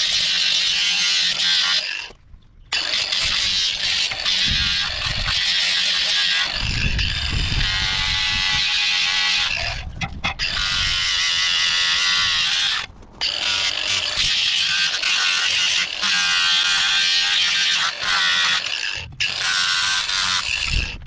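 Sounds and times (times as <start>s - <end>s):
electric grinder grinding metal: 0.0s - 2.1s, 2.7s - 21.0s.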